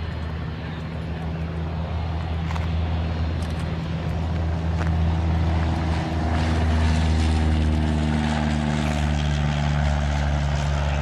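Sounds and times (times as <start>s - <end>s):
propeller engines droning: 0.0s - 11.0s.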